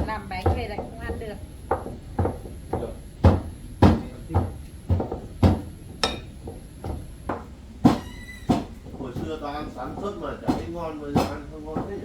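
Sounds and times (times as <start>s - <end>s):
pounding food with dull thuds: 0.0s - 12.0s.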